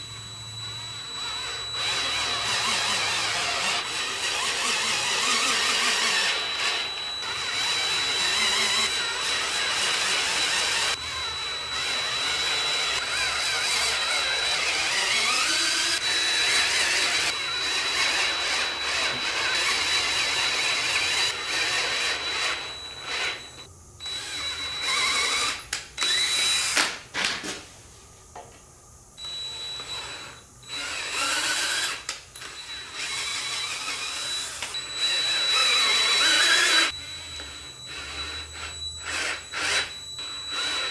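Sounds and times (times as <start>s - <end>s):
power tool running: 0.0s - 27.5s, 29.2s - 40.9s.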